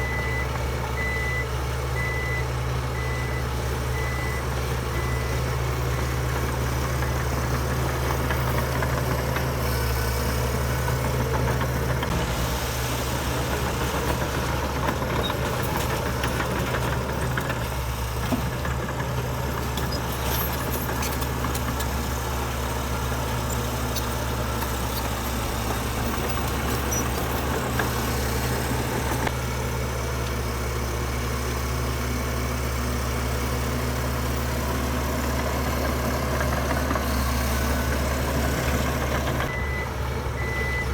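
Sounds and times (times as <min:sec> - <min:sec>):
heavy diesel engine humming: 0:00.0 - 0:40.9.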